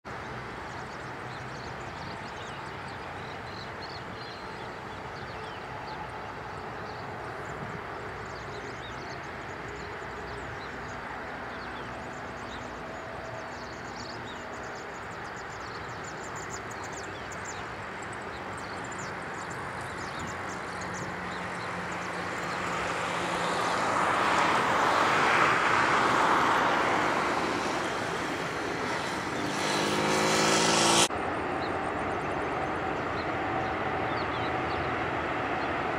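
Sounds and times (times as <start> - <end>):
jet engines rushing with whine: 0.1 - 35.9.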